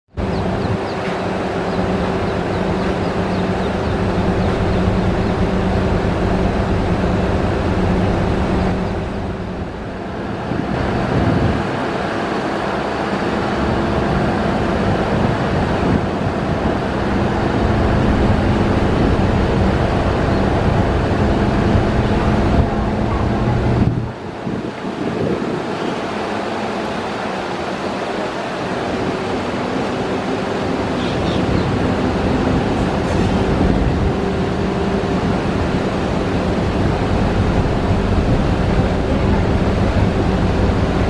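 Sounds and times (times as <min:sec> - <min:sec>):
diesel engine hum: 0:00.1 - 0:41.0
wheels rumbling on track: 0:00.1 - 0:41.0.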